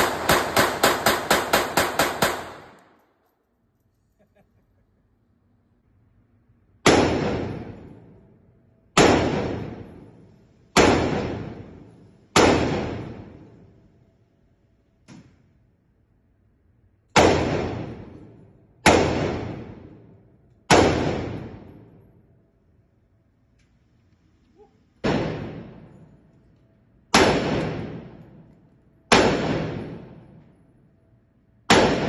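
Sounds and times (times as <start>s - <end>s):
rifle shots echoing indoors: 0.0s - 3.6s, 5.8s - 23.6s, 25.0s - 32.0s.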